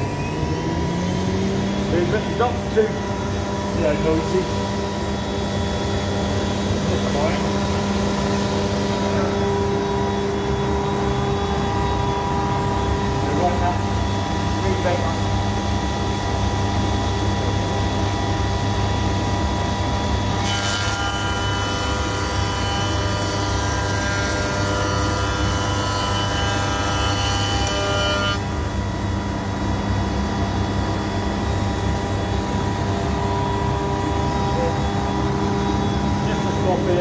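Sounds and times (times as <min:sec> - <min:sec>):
wood cutting noise: 0:00.0 - 0:15.2, 0:20.1 - 0:37.0.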